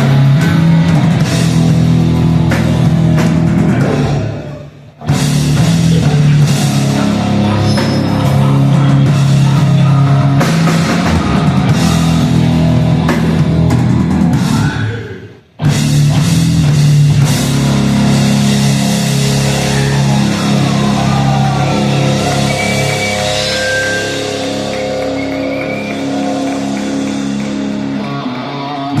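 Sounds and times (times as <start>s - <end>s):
heavy rock band playing live: 0.0s - 29.0s.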